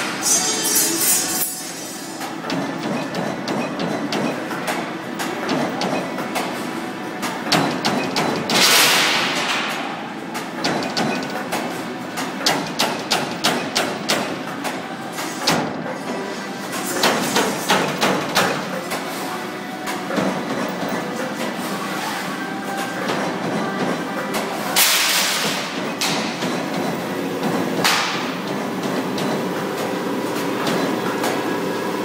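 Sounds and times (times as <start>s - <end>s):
machine running noise: 0.0s - 32.0s.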